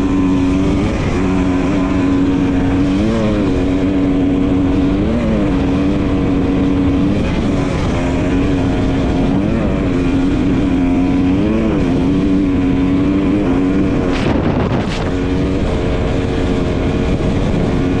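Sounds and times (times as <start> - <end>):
dirt bike engine running: 0.0 - 18.0
wind and road noise: 0.0 - 18.0.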